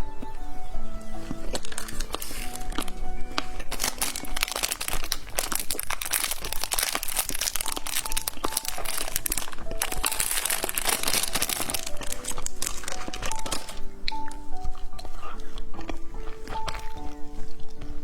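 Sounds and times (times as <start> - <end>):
light background music: 0.0 - 18.0
plastic packaging crinkling: 0.0 - 18.0.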